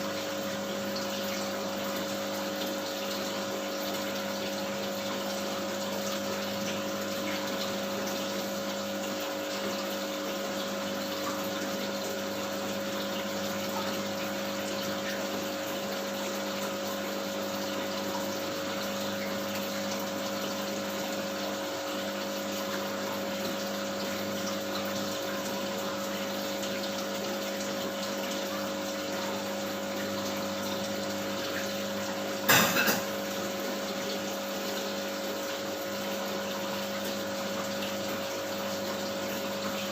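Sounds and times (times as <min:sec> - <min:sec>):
aquarium pump humming: 0:00.0 - 0:39.9
water running and splashing: 0:00.4 - 0:39.9.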